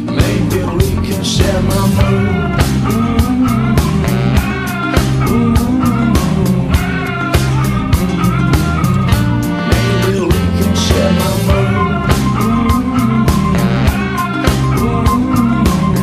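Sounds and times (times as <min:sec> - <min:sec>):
rock music with drums and guitar: 0:00.0 - 0:16.0.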